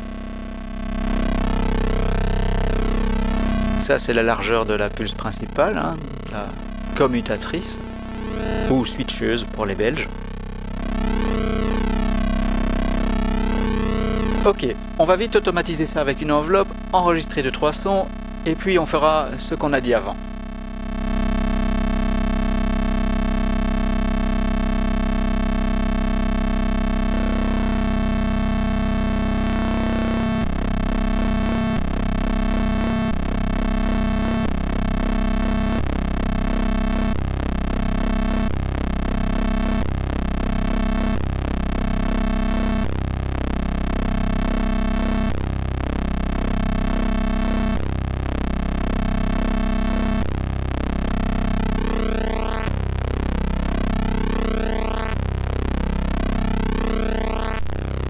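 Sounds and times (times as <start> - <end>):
buzzy synthesizer drone: 0.0 - 58.0.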